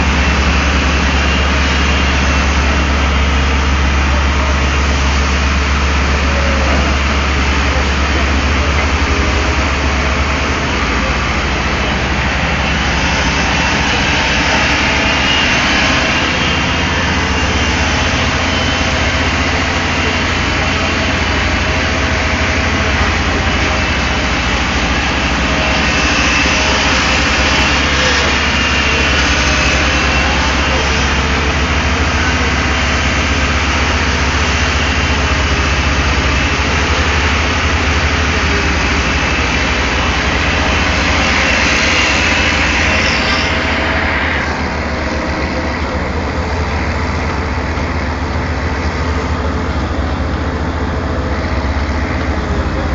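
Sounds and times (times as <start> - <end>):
diesel engine running: 0.0 - 52.9
higher engine whine: 0.0 - 52.9.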